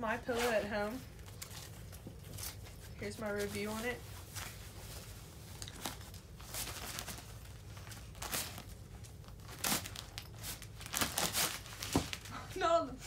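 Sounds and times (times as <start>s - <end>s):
plastic packaging crinkling: 0.4s - 12.4s.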